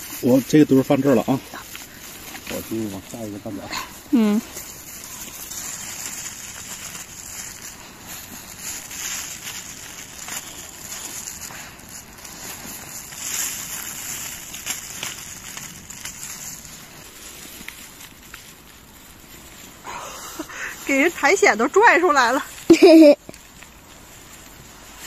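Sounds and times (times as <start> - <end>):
rustling of forest litter: 0.0 - 25.0
steady hiss: 0.0 - 25.0.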